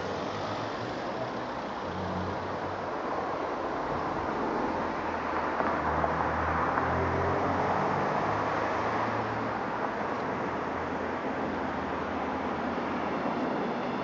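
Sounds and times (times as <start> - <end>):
passing vehicle engine hum: 0.0 - 14.0
road traffic noise: 0.0 - 14.0.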